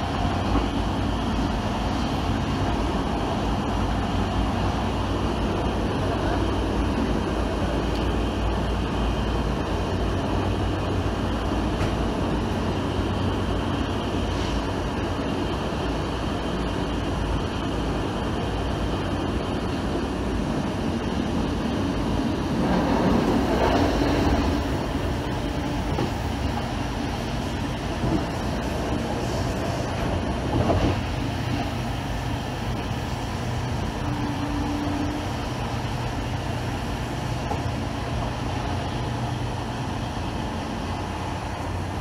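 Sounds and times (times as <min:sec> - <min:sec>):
train running through tunnel: 0:00.0 - 0:42.0.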